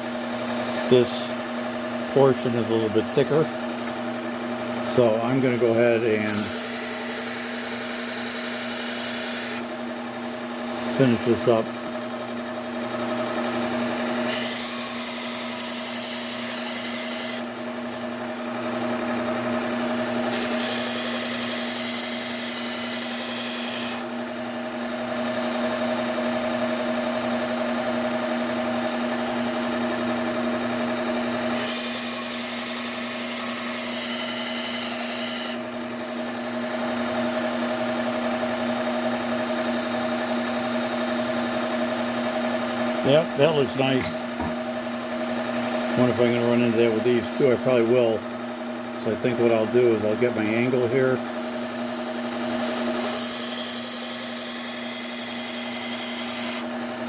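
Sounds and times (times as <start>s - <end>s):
belt sander humming: 0.0s - 57.0s.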